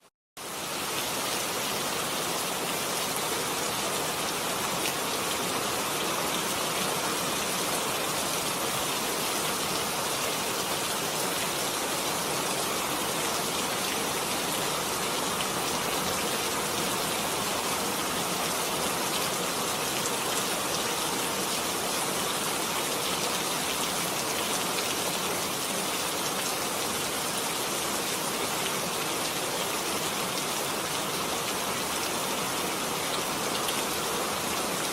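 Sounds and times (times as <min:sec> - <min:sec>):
rain falling: 0:00.4 - 0:34.9.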